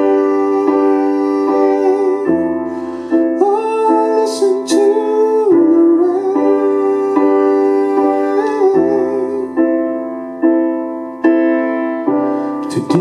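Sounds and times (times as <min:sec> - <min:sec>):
piano playing sustained chords: 0:00.0 - 0:13.0.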